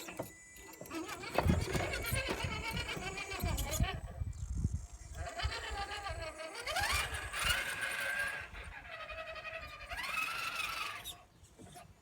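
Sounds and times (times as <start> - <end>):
electric motor and gear whine: 0.0 - 11.2.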